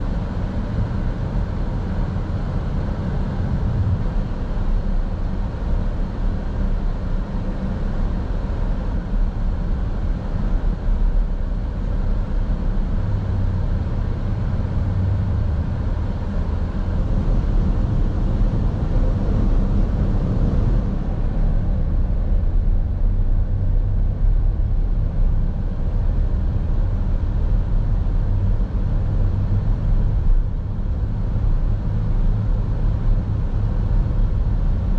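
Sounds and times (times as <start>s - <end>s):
car interior road noise: 0.0s - 34.9s.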